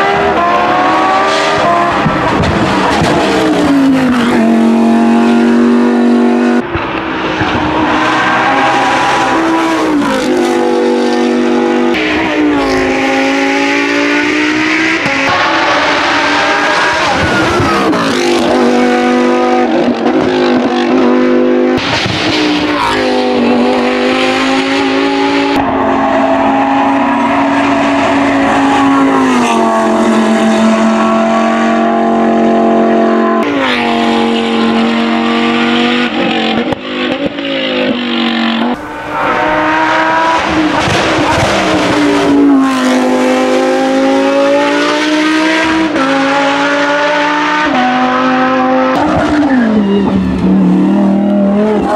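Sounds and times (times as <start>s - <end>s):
racing car engine accelerating: 0.0s - 51.9s.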